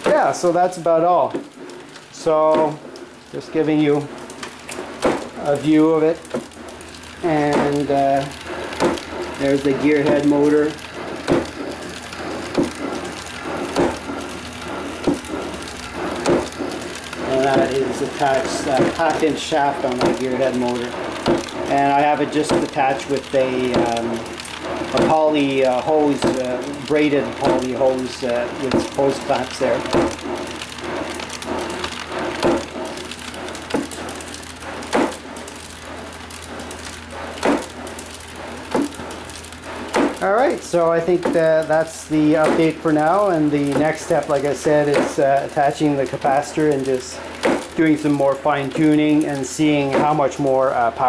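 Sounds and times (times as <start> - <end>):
motor humming: 0.0 - 50.2
mechanical clatter: 0.0 - 51.0.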